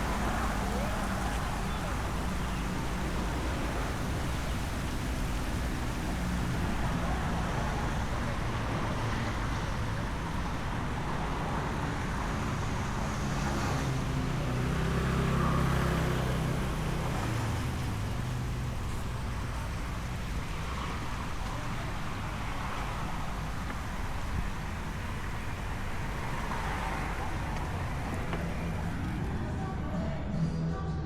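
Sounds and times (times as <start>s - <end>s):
vehicle engine humming past: 0.0s - 30.7s
road traffic noise: 0.0s - 31.0s.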